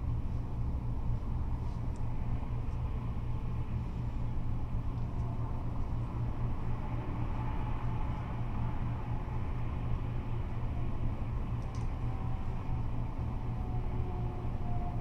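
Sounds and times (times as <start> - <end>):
freeway traffic rumble: 0.0 - 15.0.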